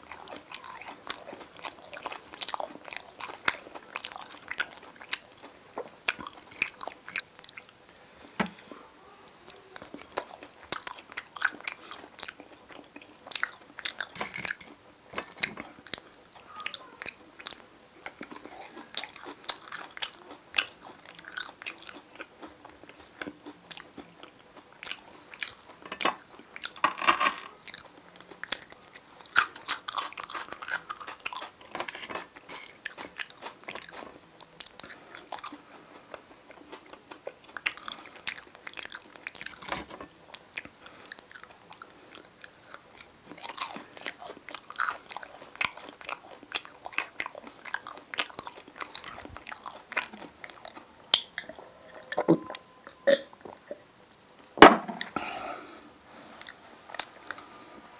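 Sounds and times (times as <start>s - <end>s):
person chewing food: 0.0s - 8.8s, 9.5s - 55.2s, 56.3s - 57.7s.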